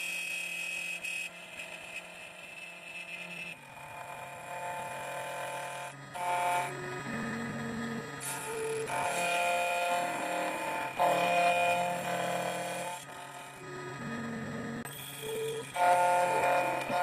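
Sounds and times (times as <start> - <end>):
key cutting machine motor whine: 0.0 - 17.0.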